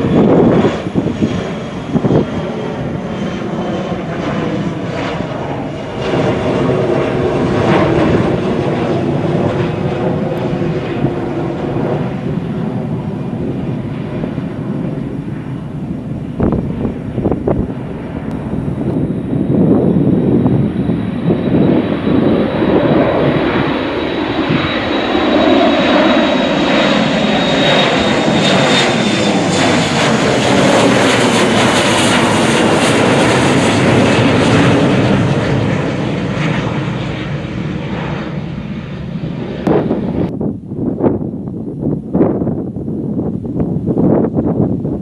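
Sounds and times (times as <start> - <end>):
jet roaring overhead: 0.0 - 45.0.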